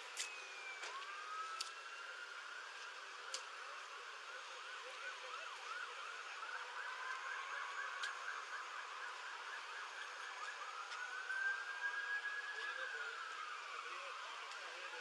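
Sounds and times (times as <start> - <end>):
distant emergency siren: 0.0 - 15.0.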